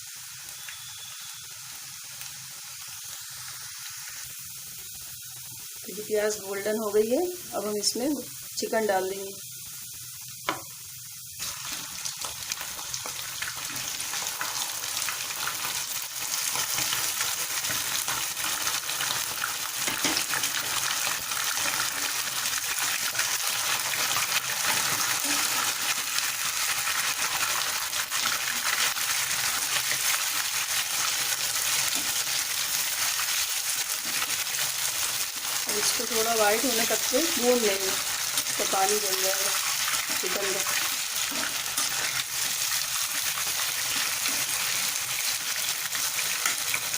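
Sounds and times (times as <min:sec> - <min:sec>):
chicken sizzling in hot oil: 0:00.0 - 0:46.9.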